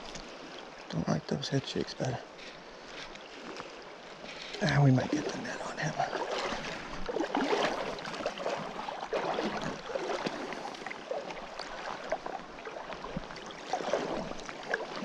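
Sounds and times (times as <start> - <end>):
river water splashing and gurgling: 0.0 - 15.0.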